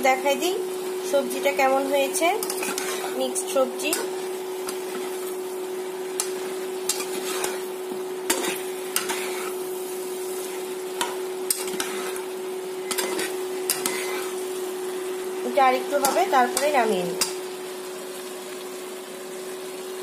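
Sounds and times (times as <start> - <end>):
induction cooktop hum: 0.0 - 20.0
vegetables sizzling in a pan: 0.0 - 20.0.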